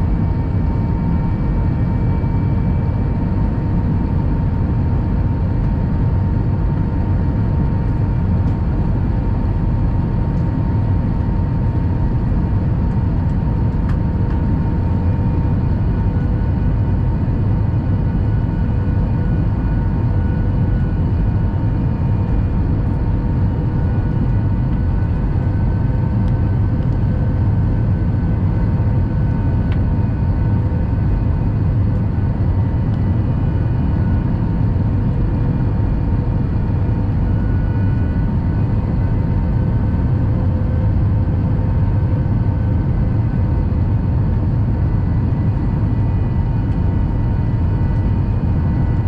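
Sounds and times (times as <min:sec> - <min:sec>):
jet cabin engine roar: 0:00.0 - 0:49.0.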